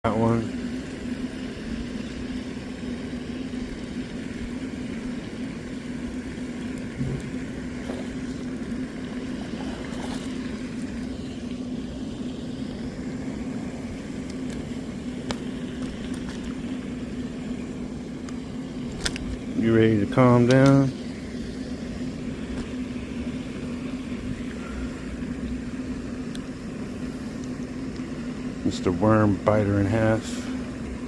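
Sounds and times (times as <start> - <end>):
continuous rush of noise: 0.0 - 31.0
low mechanical hum: 0.0 - 31.0.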